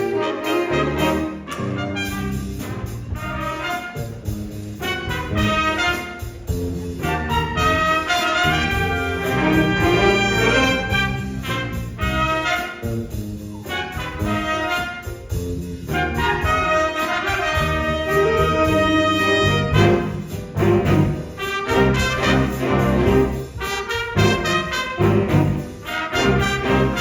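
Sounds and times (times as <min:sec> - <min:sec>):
big band jazz ensemble: 0:00.0 - 0:27.0.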